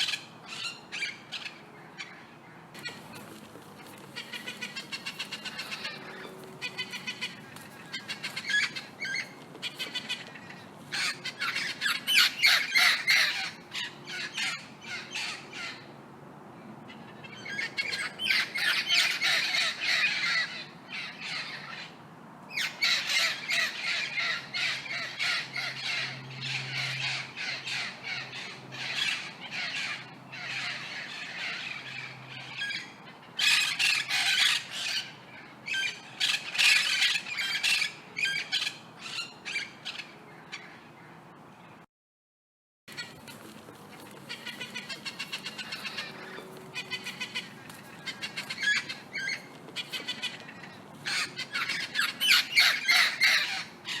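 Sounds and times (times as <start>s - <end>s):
parrots squawking: 0.0s - 15.8s, 17.0s - 21.9s, 22.5s - 40.8s, 42.9s - 54.0s.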